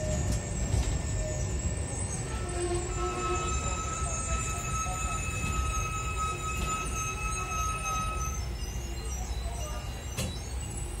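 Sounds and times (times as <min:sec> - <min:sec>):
high-pitched whine: 0:00.0 - 0:10.8
tram low rumble: 0:00.0 - 0:11.0.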